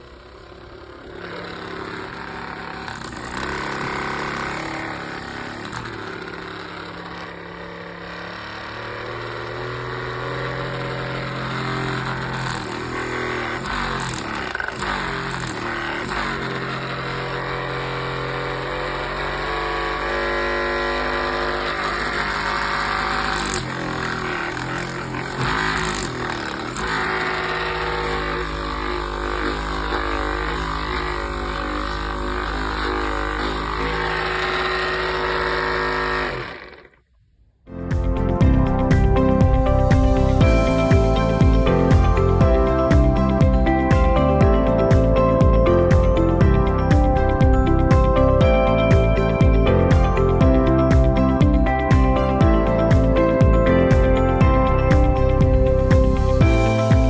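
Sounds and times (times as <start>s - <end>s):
massage gun motor buzzing: 0.0s - 37.0s, 37.8s - 57.0s.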